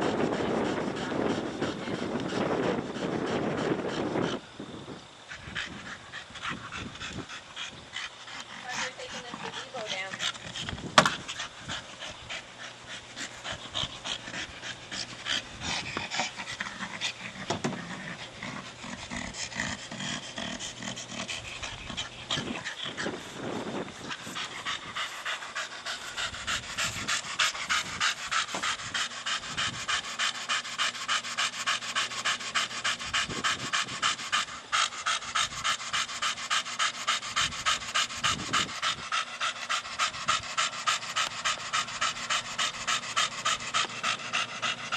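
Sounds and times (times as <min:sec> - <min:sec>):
dog panting hard: 0:00.0 - 0:44.9.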